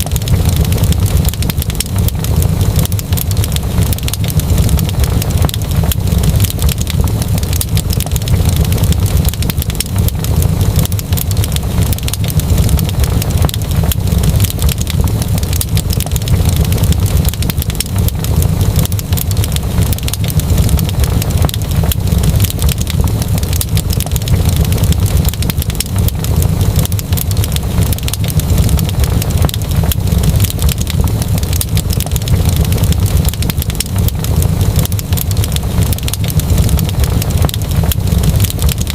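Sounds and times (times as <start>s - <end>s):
fire crackling and popping: 0.0s - 38.9s
fire roaring: 0.0s - 38.9s.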